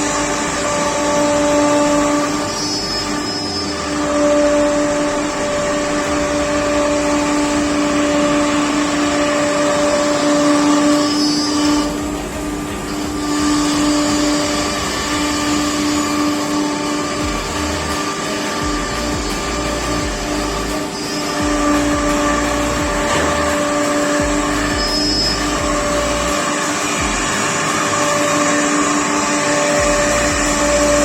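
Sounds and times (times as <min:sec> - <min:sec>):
router machine whining: 0:00.0 - 0:31.0.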